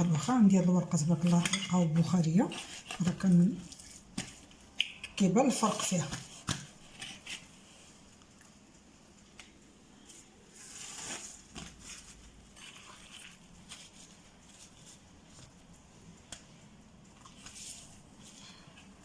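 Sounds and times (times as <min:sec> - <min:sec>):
pastry sheets rustling: 0:00.0 - 0:19.0.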